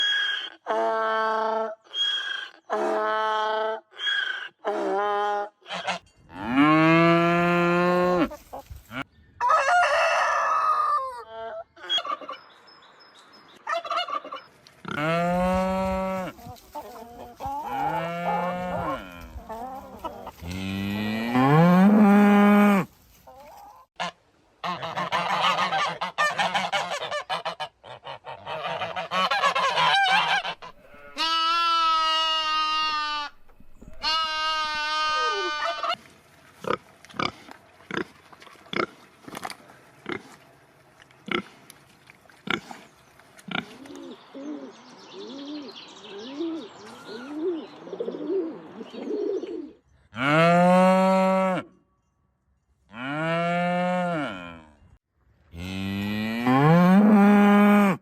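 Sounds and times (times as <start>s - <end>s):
farm animals honking and bellowing: 0.0s - 12.7s, 13.6s - 51.8s, 52.8s - 58.0s.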